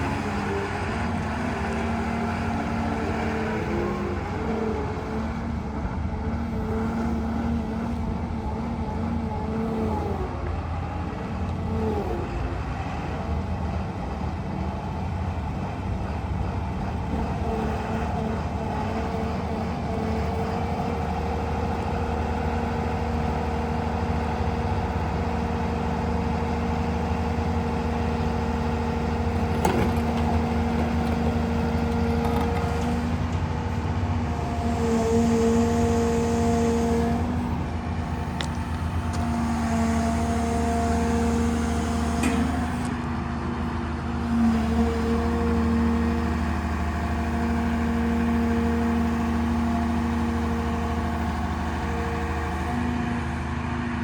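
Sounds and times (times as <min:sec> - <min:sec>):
diesel engine with whine: 0:00.0 - 0:54.0.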